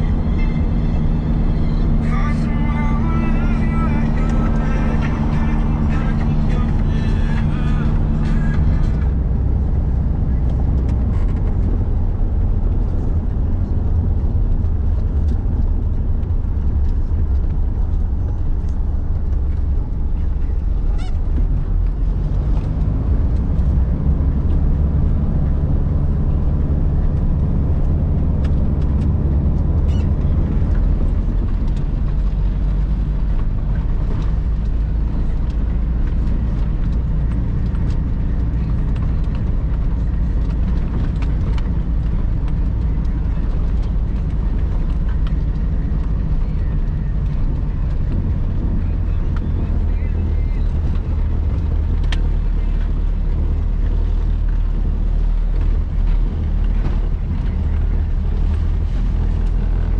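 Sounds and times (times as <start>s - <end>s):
car driving on gravel: 0.0s - 59.9s.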